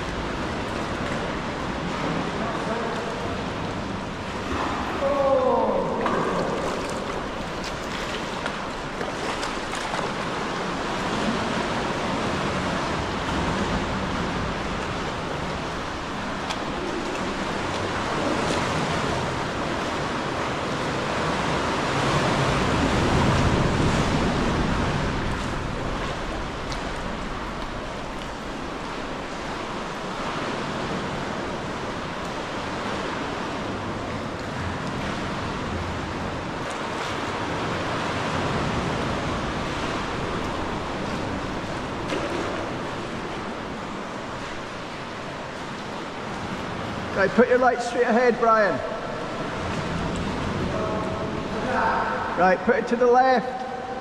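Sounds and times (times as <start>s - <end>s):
water surging in sea cave: 0.0s - 54.0s.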